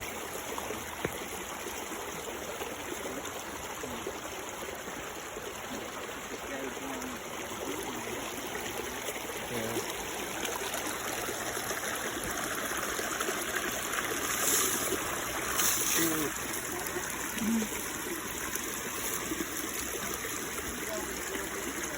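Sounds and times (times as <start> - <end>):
creek water running over rocks: 0.0 - 21.9.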